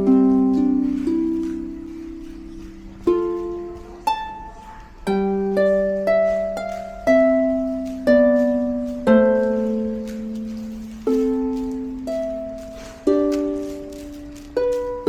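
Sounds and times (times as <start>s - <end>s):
slow plucked-string melody: 0.0s - 15.0s.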